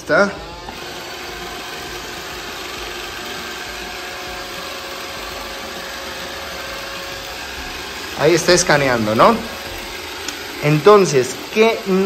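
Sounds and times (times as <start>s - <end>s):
robot vacuum whirring: 0.4s - 12.0s.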